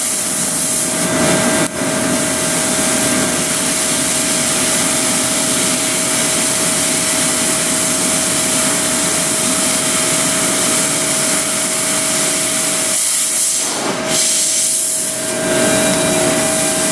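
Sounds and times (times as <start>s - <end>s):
laser cutter hiss: 0.0s - 16.9s
steady whine: 0.0s - 16.9s.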